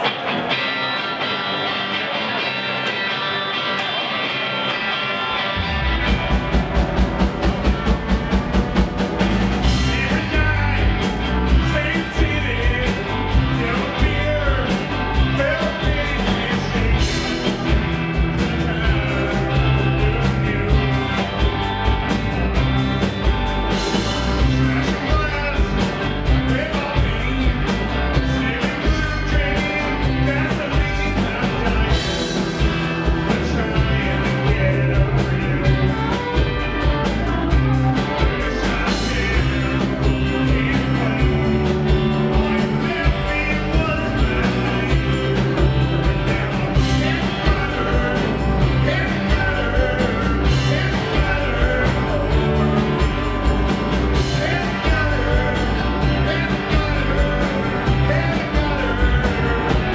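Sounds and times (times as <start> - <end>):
electric guitars: 0.0 - 59.9
bass and drums beat: 5.4 - 59.9
man singing: 9.6 - 21.7, 22.7 - 59.9.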